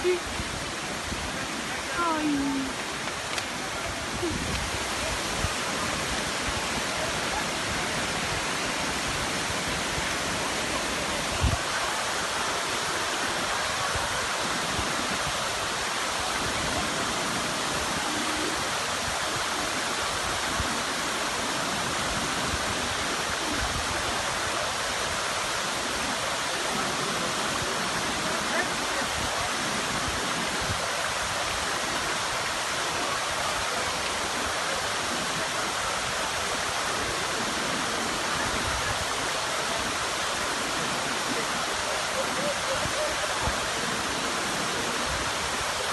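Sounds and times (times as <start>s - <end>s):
waterfall pouring: 0.0s - 45.9s.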